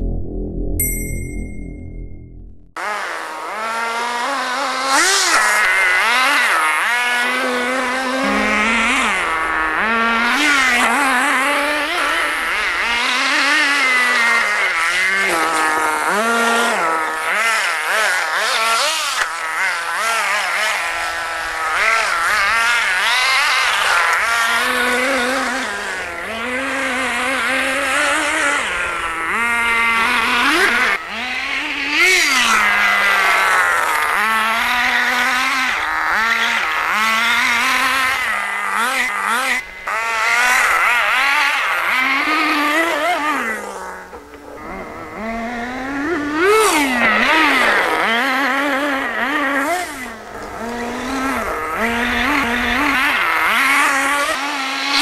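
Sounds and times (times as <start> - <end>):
small engine revving: 2.8 - 55.0.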